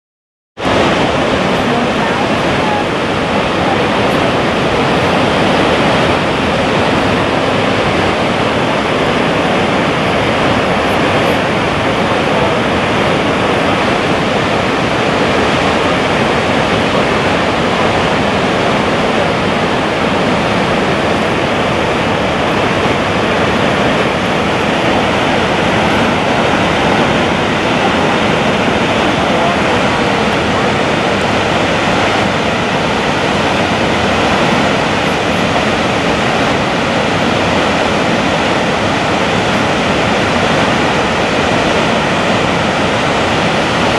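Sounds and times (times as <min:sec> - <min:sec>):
waterfall rushing over rocks: 0:00.6 - 0:43.9.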